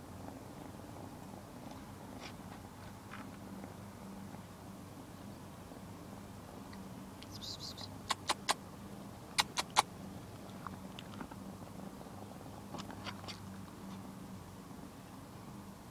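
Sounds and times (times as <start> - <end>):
low steady hum: 0.0 - 15.9.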